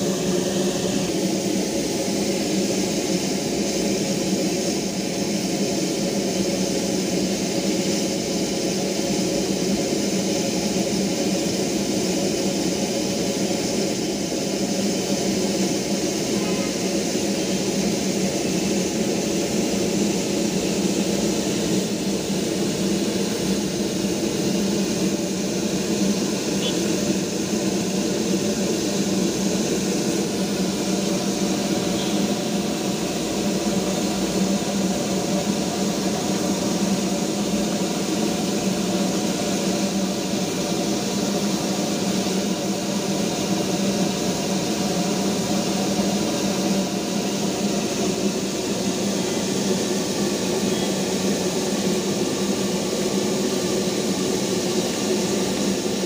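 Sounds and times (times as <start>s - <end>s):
hiss of escaping steam: 0.0s - 56.0s.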